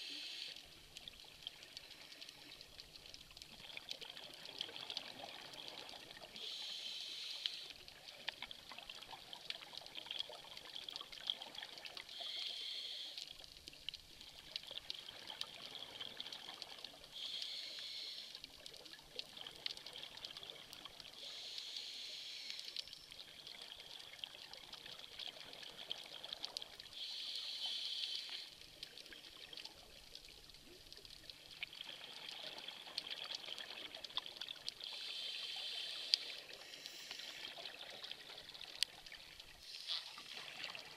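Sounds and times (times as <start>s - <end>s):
faint crackle of clicks in water: 0.0s - 40.9s.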